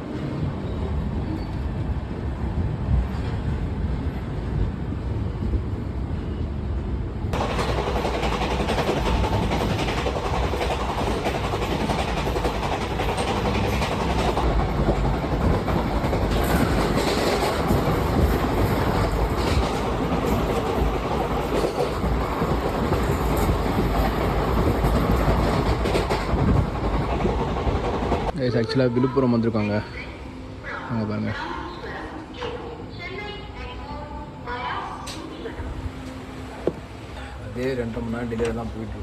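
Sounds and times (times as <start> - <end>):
train coaches rumbling: 0.0 - 39.0.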